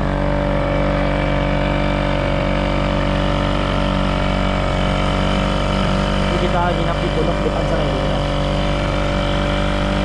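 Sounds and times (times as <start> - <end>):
small engine running steadily: 0.0 - 10.0.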